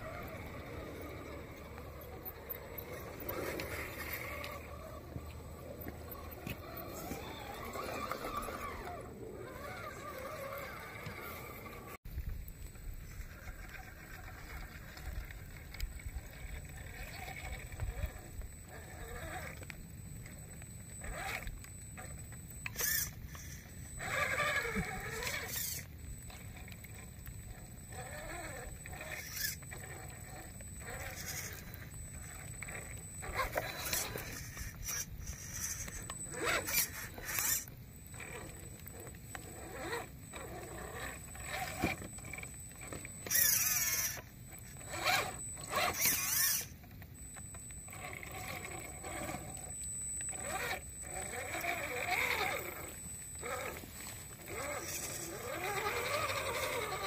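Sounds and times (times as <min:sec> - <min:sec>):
electric motor whining: 0:00.0 - 0:12.0, 0:13.0 - 0:57.0.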